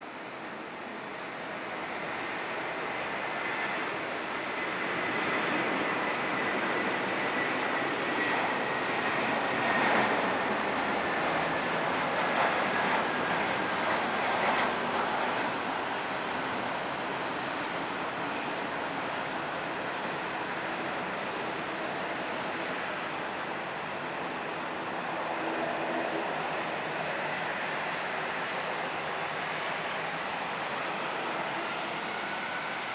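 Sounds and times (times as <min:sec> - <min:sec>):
jet engine whine: 0:00.1 - 0:32.9
jet engines roaring past: 0:00.1 - 0:32.9.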